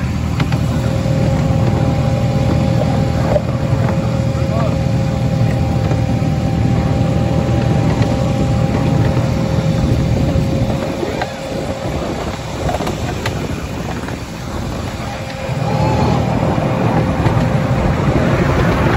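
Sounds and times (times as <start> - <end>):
miniature locomotive rumble: 0.0 - 18.9.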